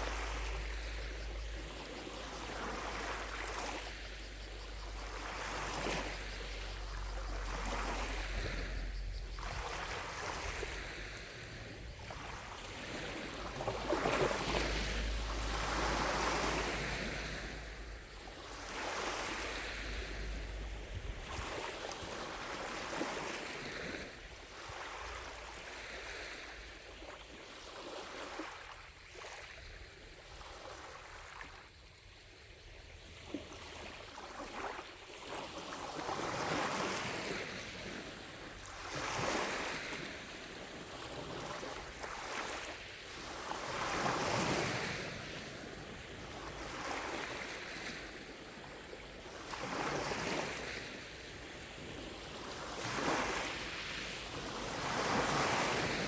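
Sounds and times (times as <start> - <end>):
lake waves lapping on shore: 0.0 - 56.0.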